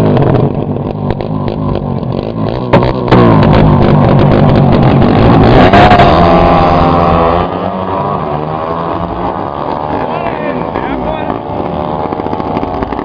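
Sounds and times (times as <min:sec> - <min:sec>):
motorcycle engine at full throttle: 0:00.0 - 0:13.0.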